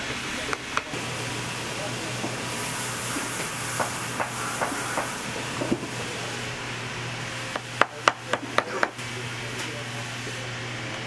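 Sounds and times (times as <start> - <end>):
workshop hum and hiss: 0.0 - 11.0.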